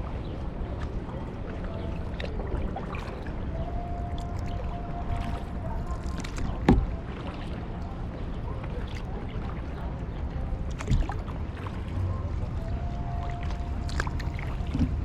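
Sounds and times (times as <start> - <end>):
paddle splashing water: 0.0 - 15.0.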